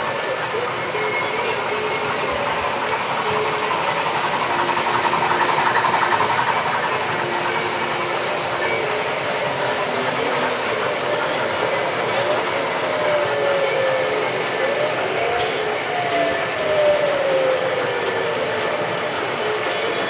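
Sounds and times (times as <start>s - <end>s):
hubbub of voices: 0.0s - 20.0s
model trains rolling rumble: 0.0s - 20.0s.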